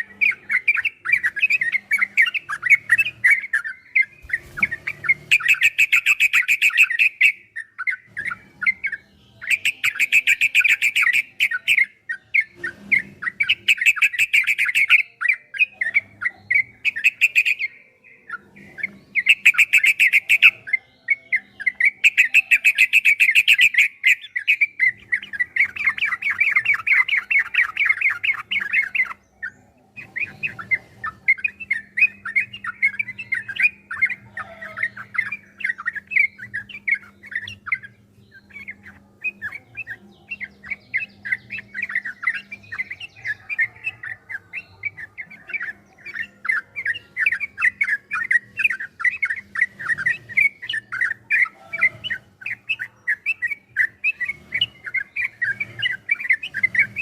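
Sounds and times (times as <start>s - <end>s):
bird singing chattering notes: 0.0s - 57.0s.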